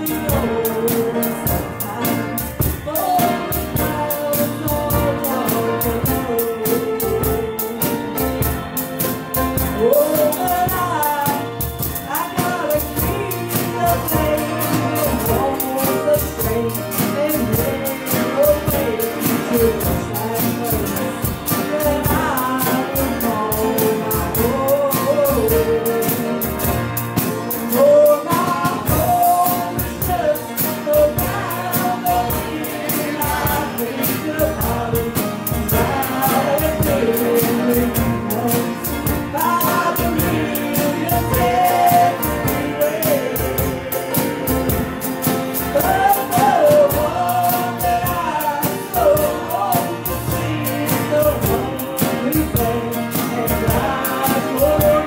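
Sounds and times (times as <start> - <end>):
woman singing gospel song: 0.0 - 8.6, 9.5 - 45.0, 45.6 - 55.0
steady beat: 0.0 - 55.0
strummed acoustic guitar: 0.0 - 55.0.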